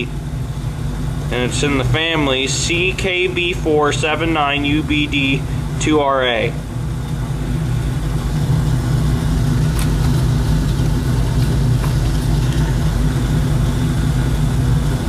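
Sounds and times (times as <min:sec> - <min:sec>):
low machine drone: 0:00.0 - 0:15.0.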